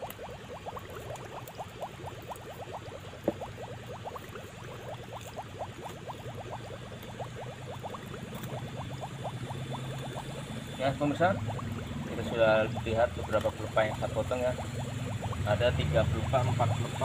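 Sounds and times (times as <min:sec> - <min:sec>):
water bubbling: 0:00.0 - 0:17.0.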